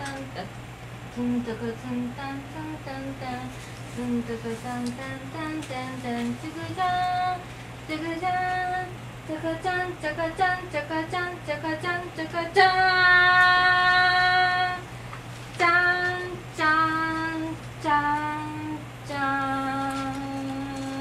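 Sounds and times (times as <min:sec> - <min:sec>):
woman singing slow melody: 0:00.0 - 0:15.0, 0:15.6 - 0:21.0.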